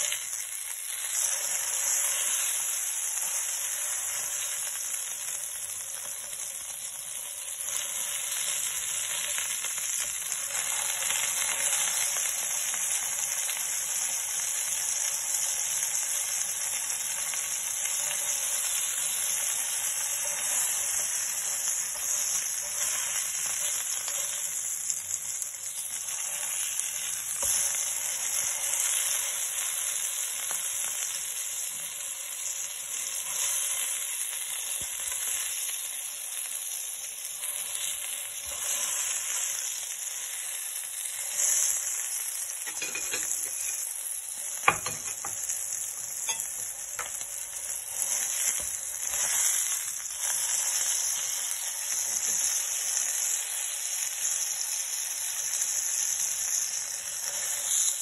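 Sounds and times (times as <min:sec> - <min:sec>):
patty sizzling in oil: 0:00.0 - 0:58.0.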